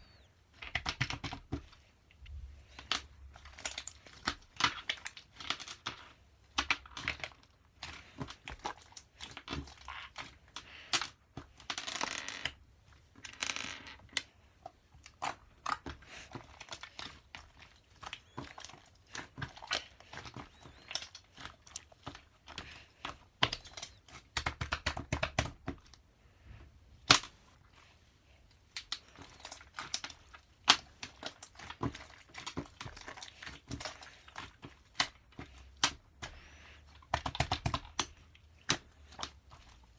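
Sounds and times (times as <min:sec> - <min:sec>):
rustling and crinkling: 0:00.0 - 0:24.4, 0:25.7 - 0:39.9.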